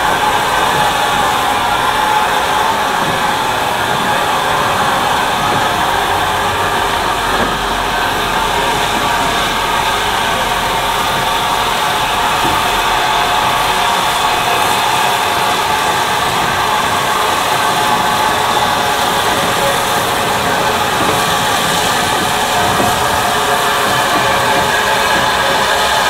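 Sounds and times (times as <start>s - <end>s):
steam hissing from locomotive: 0.0s - 26.0s.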